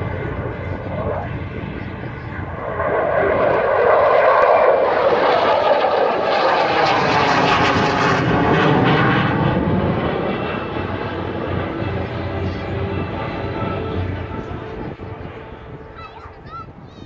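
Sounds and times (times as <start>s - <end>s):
fighter jet roaring past: 0.0s - 16.5s.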